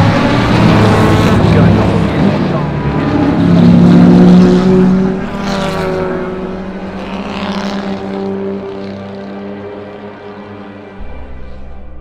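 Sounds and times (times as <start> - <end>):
racing cars passing: 0.0 - 11.8.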